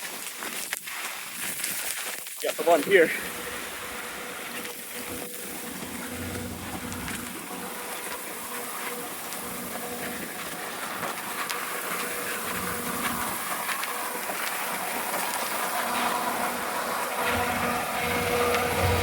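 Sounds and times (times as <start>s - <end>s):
constant hiss: 0.0s - 19.0s
generator engine running: 2.6s - 19.0s.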